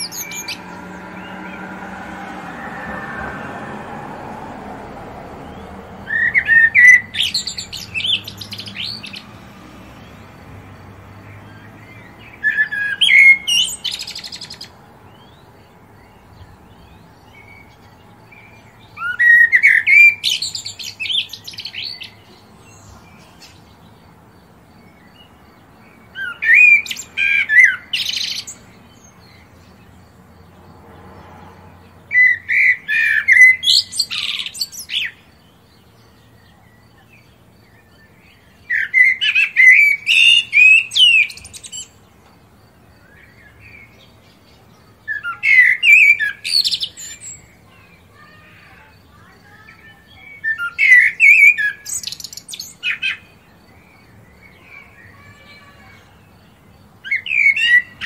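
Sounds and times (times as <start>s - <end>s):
bird singing chirping notes: 0.0s - 30.5s, 31.8s - 58.0s.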